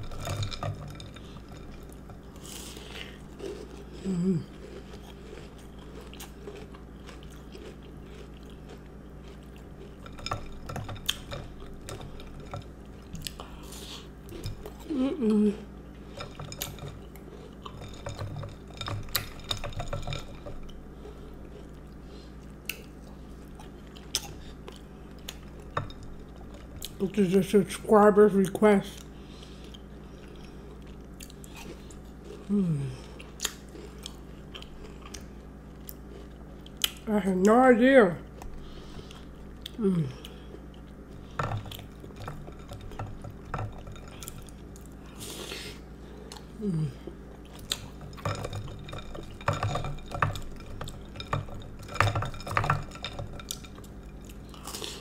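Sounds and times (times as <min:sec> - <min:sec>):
wet chewing: 0:00.0 - 0:27.1, 0:29.0 - 0:37.1, 0:38.2 - 0:55.0.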